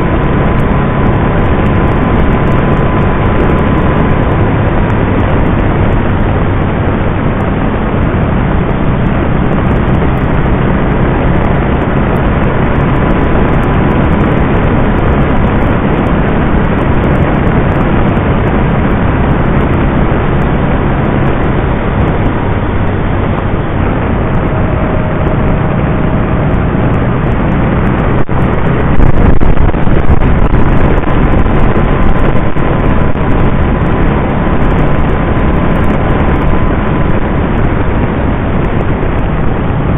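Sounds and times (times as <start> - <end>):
loud rushing noise: 0.0 - 39.9
motorcycle engine drone: 0.0 - 39.9.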